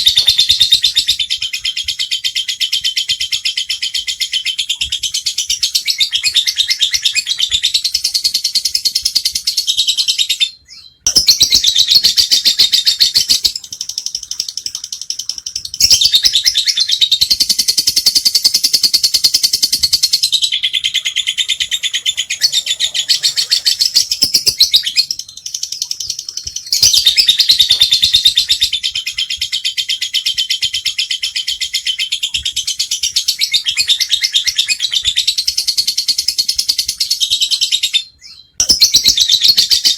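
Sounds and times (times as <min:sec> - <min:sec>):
lovebird chattering trill: 0:00.0 - 0:32.2.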